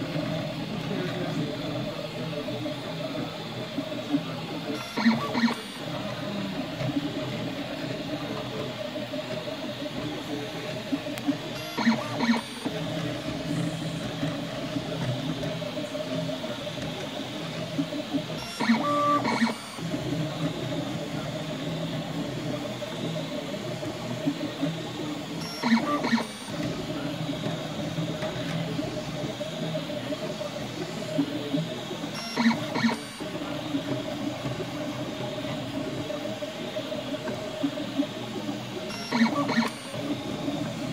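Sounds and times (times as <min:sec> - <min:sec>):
stepper motors whirring: 0:00.1 - 0:40.9.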